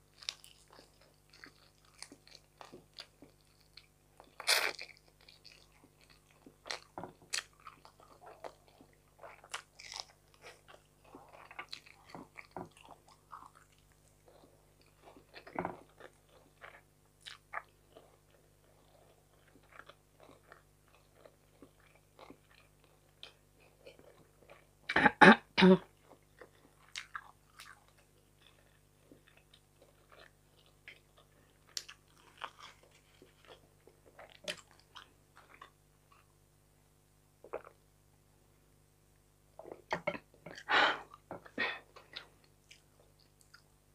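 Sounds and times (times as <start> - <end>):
chewing and crunching food: 0.0 - 24.9, 25.8 - 36.4, 39.6 - 43.9.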